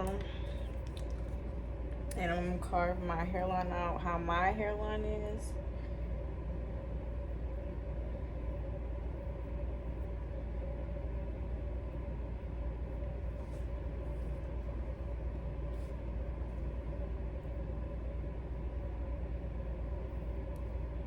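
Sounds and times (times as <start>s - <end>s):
faint constant hum: 0.0s - 21.0s
steady low rumble: 0.0s - 21.0s.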